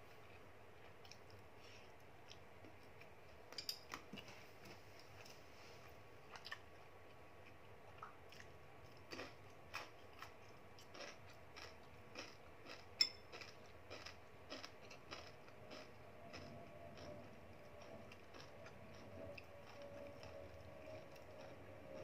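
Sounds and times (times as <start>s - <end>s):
soft chewing: 0.0s - 22.0s.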